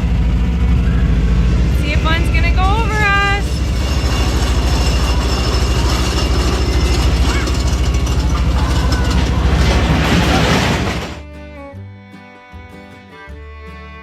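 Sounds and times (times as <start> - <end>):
low mechanical rumble with clattering: 0.0 - 11.7.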